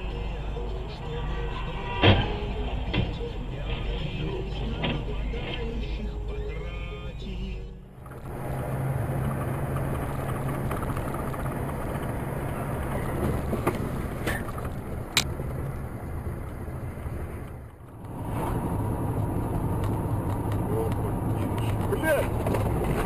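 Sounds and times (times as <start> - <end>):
low hum: 0.0 - 22.8
car driving road noise: 0.0 - 23.0.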